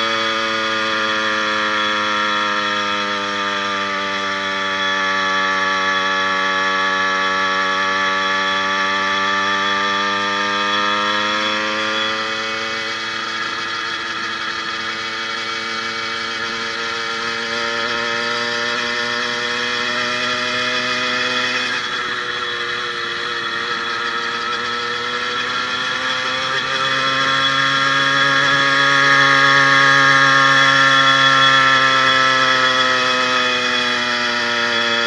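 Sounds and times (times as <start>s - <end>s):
two-stroke engine running: 0.0s - 35.0s.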